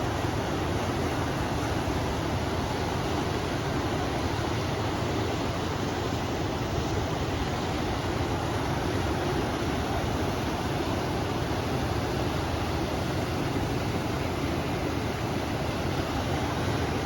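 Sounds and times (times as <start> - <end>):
river water rushing: 0.0 - 17.0
wind: 0.0 - 17.0.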